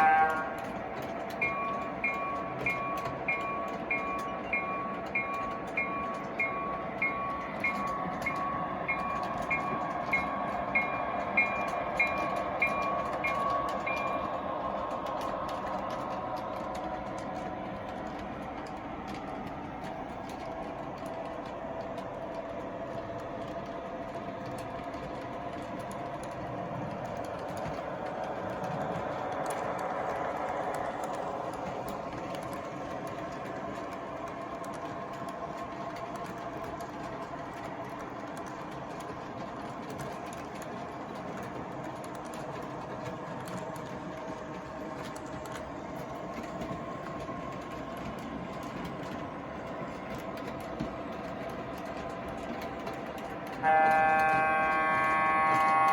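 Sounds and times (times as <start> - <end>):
model train motor hum and rumble: 0.0 - 55.9.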